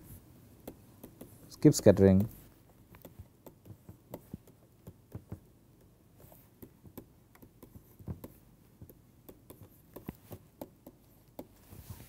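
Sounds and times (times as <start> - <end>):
stylus tapping on tablet screen: 0.6 - 11.6.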